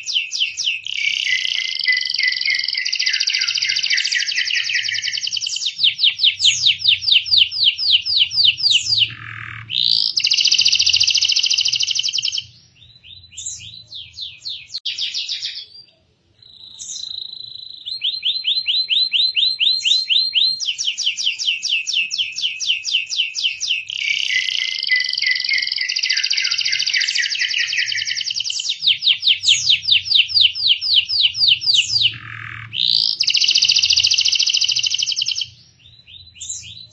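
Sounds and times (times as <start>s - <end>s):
canary singing trills: 0.0s - 36.9s.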